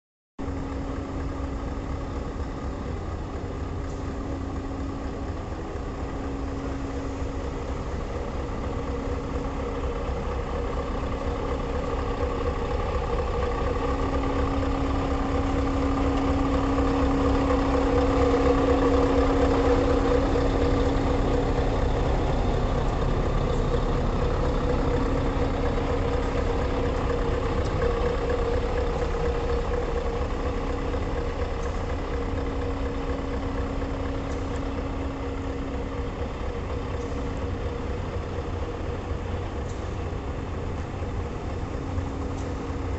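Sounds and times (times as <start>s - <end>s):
diesel engine idling: 0.4s - 42.9s.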